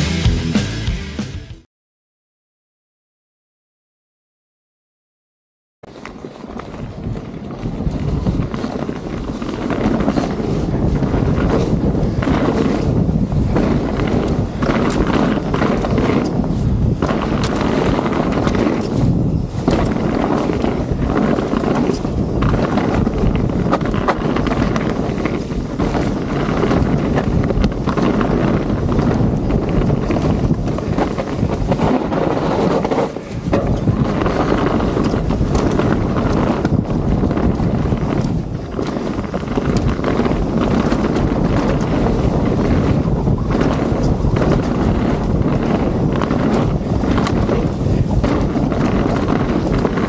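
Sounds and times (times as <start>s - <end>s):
bike tyre noise: 5.8s - 50.0s
wind rushing over microphone: 5.8s - 50.0s
bike clicks and rattles: 5.9s - 50.0s.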